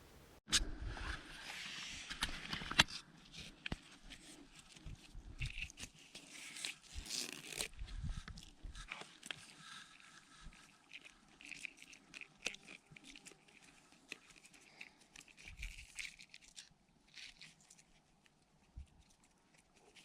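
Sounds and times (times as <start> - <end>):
crackling and rustling: 1.0 - 20.0.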